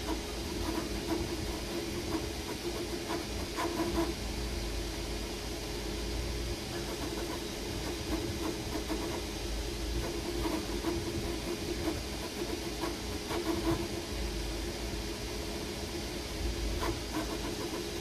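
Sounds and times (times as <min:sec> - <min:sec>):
cooling fans hissing: 0:00.0 - 0:18.0.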